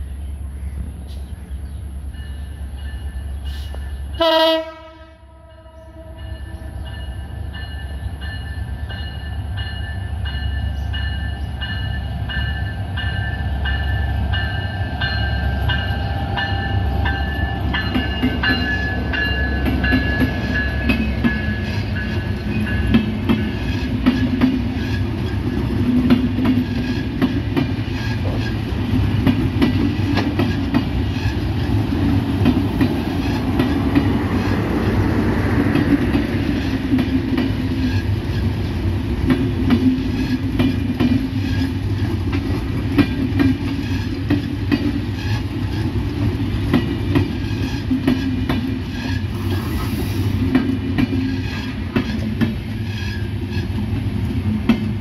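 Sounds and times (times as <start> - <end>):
train wheel rumble on rails: 0.0 - 55.0
wheels clacking over rail joints: 5.5 - 49.4, 50.4 - 55.0.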